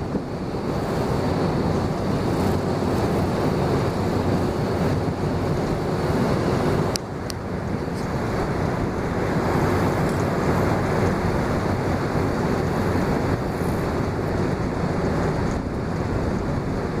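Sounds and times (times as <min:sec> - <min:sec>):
low engine rumble: 0:00.0 - 0:17.0
wind noise on microphone: 0:00.0 - 0:17.0.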